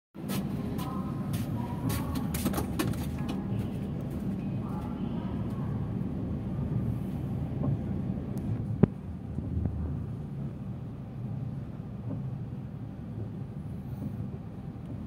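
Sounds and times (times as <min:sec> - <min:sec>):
train coach rumbling: 0:00.2 - 0:15.0.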